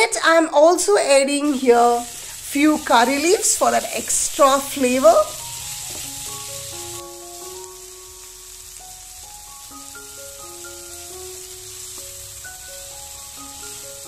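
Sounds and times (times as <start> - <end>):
simple background music: 0.0 - 14.0
vegetables sizzling in oil: 0.0 - 14.0.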